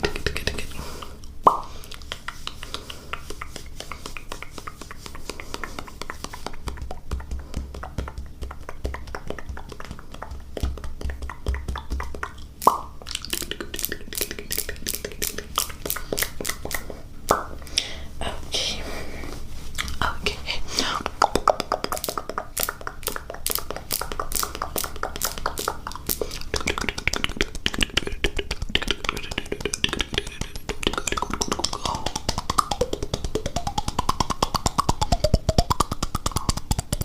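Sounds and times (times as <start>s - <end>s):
loud tongue pops: 0.0s - 17.5s, 21.1s - 37.0s
wet tongue and lip clicks: 0.0s - 17.5s, 21.1s - 37.0s.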